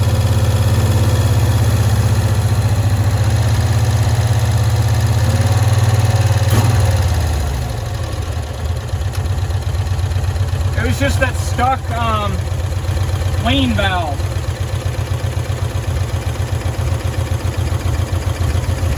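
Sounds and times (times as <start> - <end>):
small engine running: 0.0 - 18.9.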